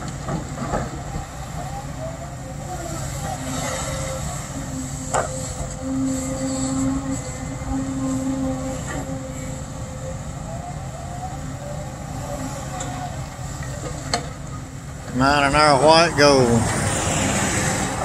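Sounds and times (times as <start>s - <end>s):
diesel engine drone: 0.0s - 18.0s
hydraulic humming tone: 0.0s - 18.0s.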